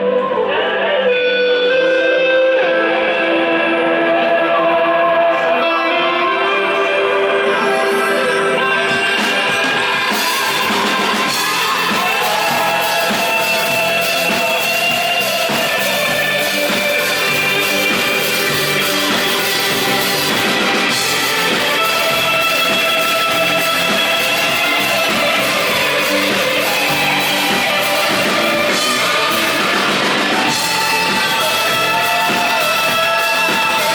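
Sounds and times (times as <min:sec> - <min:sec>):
rock band playing: 0:00.0 - 0:33.9.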